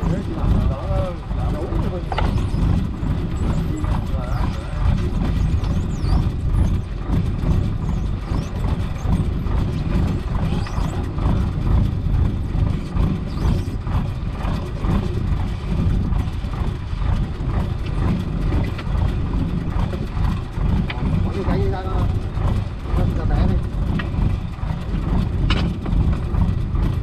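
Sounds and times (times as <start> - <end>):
boat engine rumbling: 0.0 - 27.0
rhythmic knocking of hauling gear: 0.0 - 27.0.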